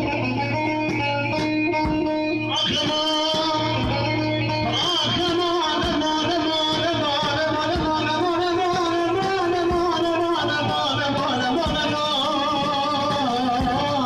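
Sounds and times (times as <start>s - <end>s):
man singing into microphone: 1.8s - 14.0s.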